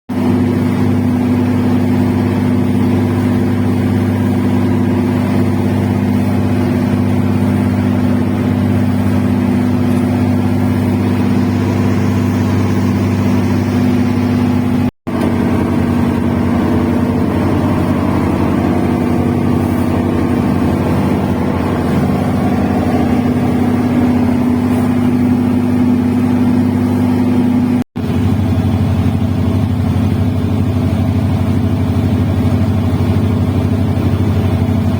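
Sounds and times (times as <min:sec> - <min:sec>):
boat engine running: 0:00.1 - 0:34.9.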